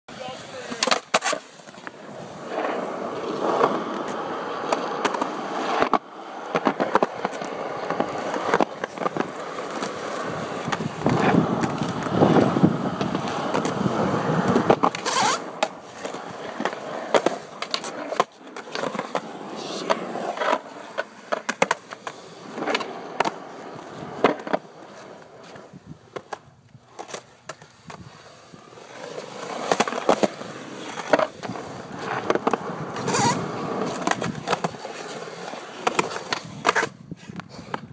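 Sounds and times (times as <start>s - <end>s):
skateboard wheels rolling on concrete: 0.1s - 37.9s
skateboard clacking on ground: 0.3s - 37.9s.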